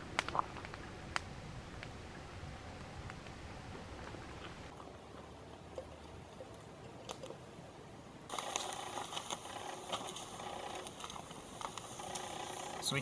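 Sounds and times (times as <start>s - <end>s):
campfire crackling and popping: 0.0s - 7.6s, 8.3s - 13.0s.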